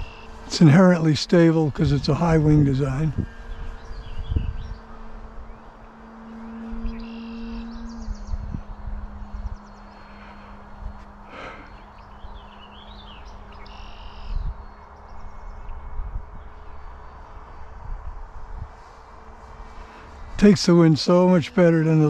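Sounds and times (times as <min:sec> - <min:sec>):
distant model plane motor humming: 0:00.0 - 0:22.0
songbirds chirping: 0:00.0 - 0:22.0
wind rumbling on microphone: 0:00.0 - 0:22.0.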